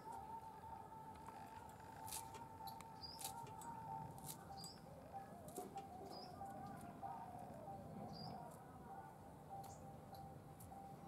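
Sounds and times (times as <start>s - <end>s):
faint wavering tone: 0.0s - 11.0s
faint bird chirps: 1.4s - 10.9s.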